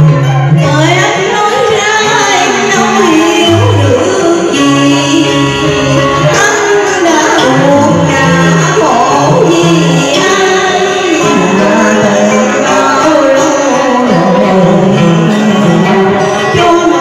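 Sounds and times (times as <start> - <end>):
instrumental accompaniment: 0.0 - 17.0
opera singing: 0.6 - 17.0.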